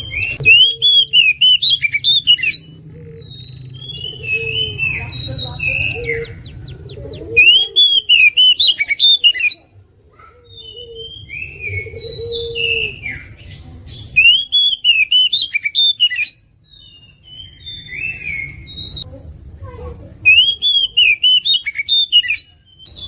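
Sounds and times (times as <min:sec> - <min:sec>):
magpie-robin singing: 0:00.0 - 0:09.8, 0:10.4 - 0:19.1, 0:19.9 - 0:23.0.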